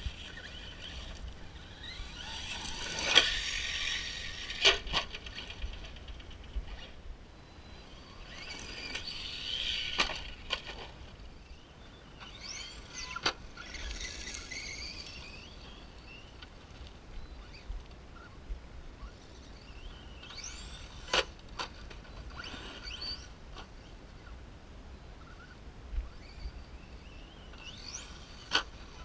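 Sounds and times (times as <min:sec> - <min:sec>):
rc truck motor whining: 0:00.0 - 0:18.4, 0:19.0 - 0:24.3, 0:25.2 - 0:29.0.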